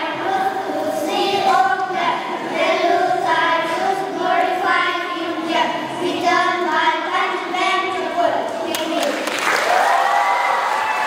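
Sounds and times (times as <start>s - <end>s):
children reciting in unison: 0.0s - 9.2s.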